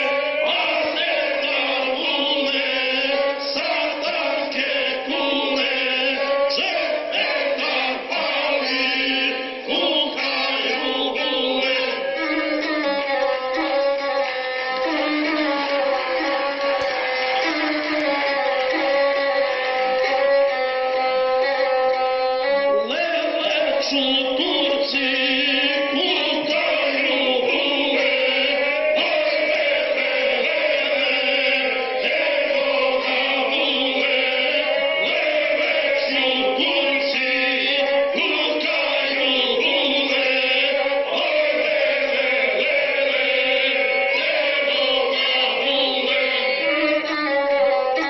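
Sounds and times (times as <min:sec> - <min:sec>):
group singing folk song through tv speaker: 0:00.0 - 0:20.3, 0:22.9 - 0:48.0.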